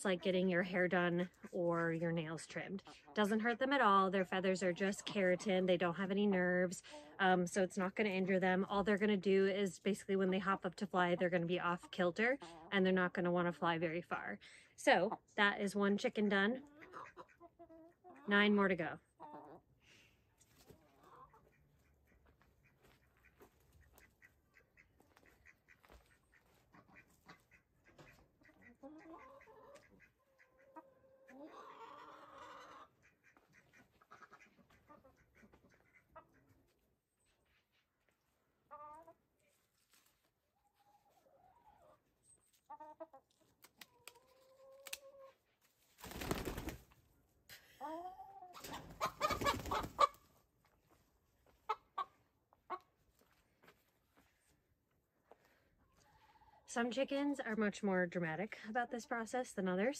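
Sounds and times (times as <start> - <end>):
hens clucking and squawking: 0.0 - 9.1, 10.2 - 13.0, 16.3 - 46.7, 47.6 - 53.4.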